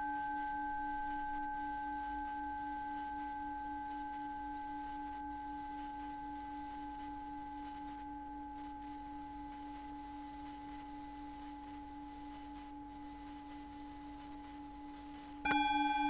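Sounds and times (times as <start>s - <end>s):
higher pure tone: 0.0s - 16.0s.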